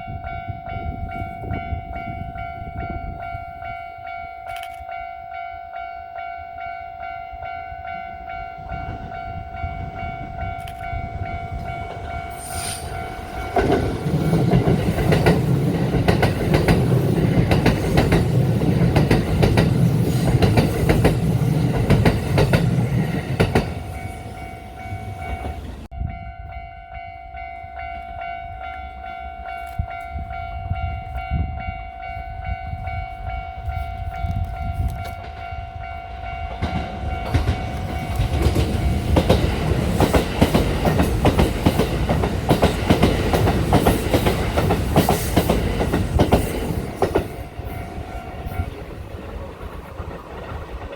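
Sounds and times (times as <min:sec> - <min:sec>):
train rumble and wheel clatter: 0:00.0 - 0:50.9.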